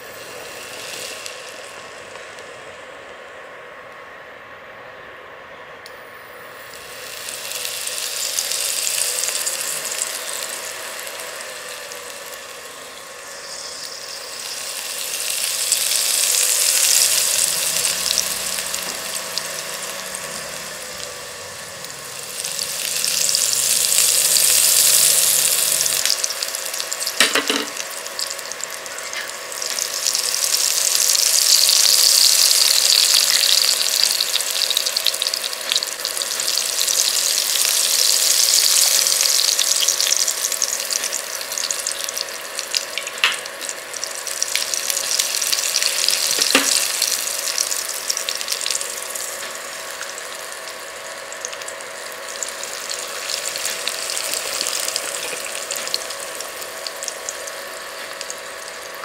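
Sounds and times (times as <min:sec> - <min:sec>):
oil sizzling in a pan: 0:00.0 - 0:03.0, 0:06.0 - 0:59.0.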